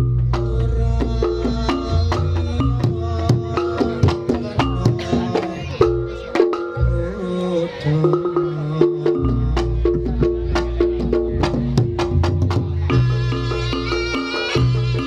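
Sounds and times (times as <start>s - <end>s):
drums and struck percussion: 0.0s - 15.0s.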